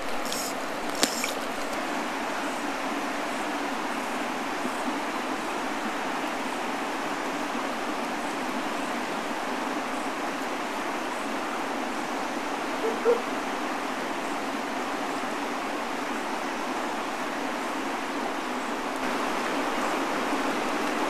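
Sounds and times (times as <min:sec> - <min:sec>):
river rushing over rapids: 0:00.0 - 0:21.0.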